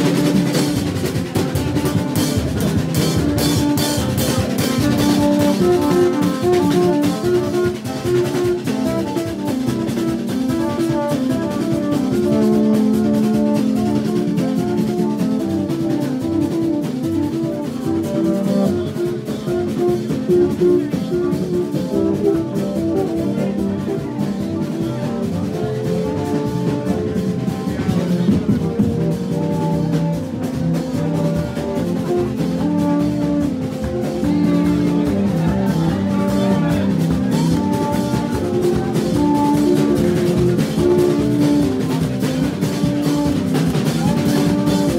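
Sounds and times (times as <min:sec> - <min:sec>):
steady drumming: 0:00.0 - 0:44.9
tube trumpets playing riff: 0:00.0 - 0:44.9.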